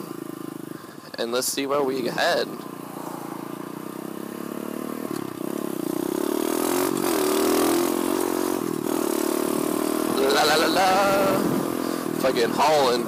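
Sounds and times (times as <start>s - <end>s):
pit bike engine running: 0.0s - 13.0s.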